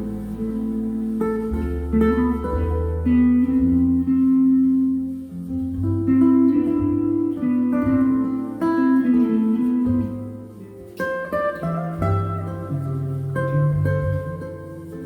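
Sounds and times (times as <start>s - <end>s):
electric guitar ballad: 0.0s - 15.0s.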